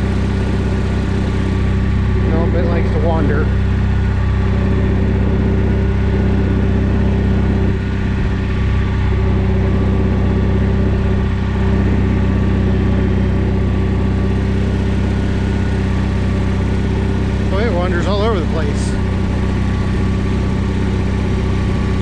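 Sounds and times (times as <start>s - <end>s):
garden tractor engine droning: 0.0s - 22.0s.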